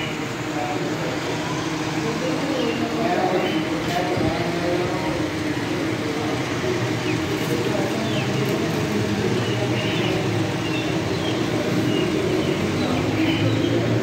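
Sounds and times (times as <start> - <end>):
small birds chirping: 0.0 - 5.2, 6.1 - 14.0.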